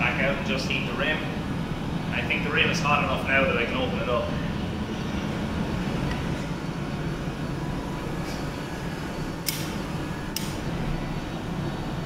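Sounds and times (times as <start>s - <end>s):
gas furnace roaring: 0.0s - 12.0s.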